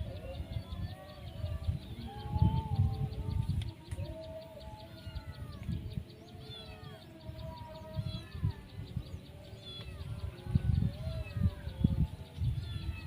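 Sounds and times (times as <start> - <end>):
low rumbling on microphone: 0.0 - 13.0.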